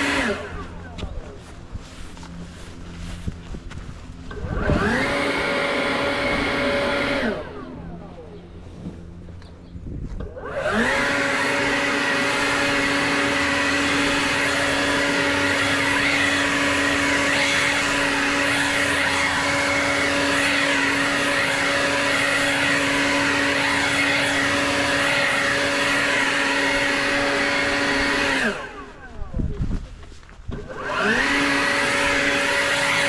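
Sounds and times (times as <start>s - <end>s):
leaf blower running: 0.0s - 33.0s.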